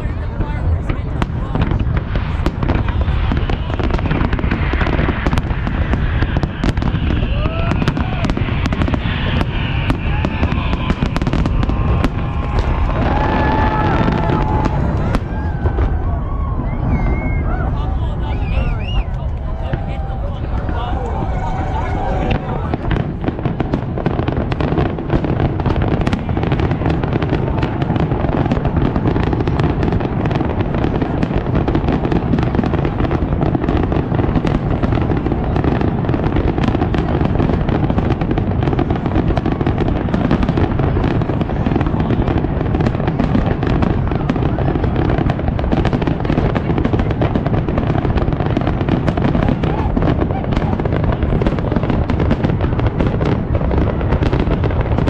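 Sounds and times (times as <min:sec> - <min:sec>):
fireworks bangs and booms: 0:00.0 - 0:55.0.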